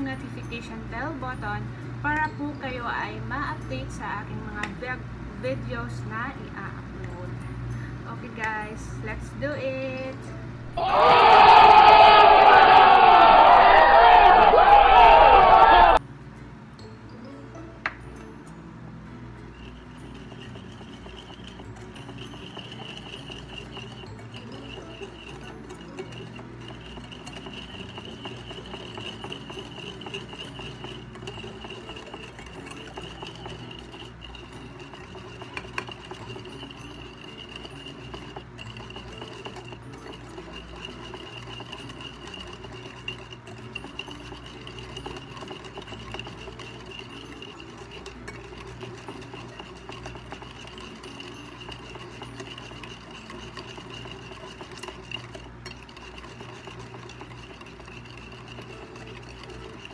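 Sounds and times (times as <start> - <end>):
wire whisk beating in a plate: 0.0 - 7.2, 7.8 - 16.0, 19.4 - 59.9.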